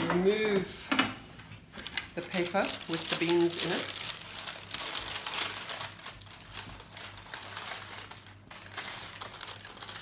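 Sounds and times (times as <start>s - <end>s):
baking paper crinkling: 1.6s - 10.0s.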